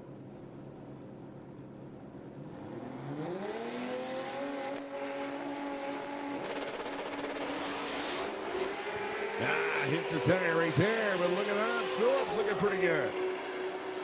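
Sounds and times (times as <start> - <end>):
drag racing cars accelerating: 2.2 - 14.0.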